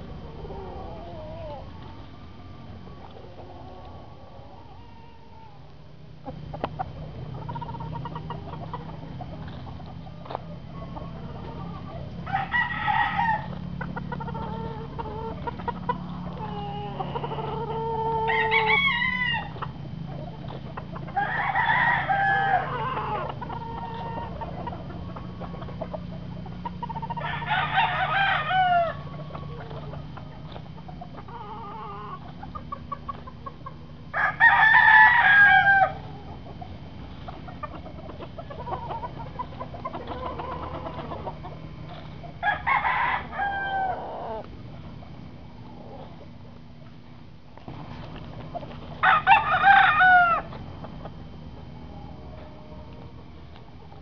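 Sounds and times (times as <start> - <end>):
roosters crowing: 0.0 - 54.0
steady low hum: 0.0 - 54.0.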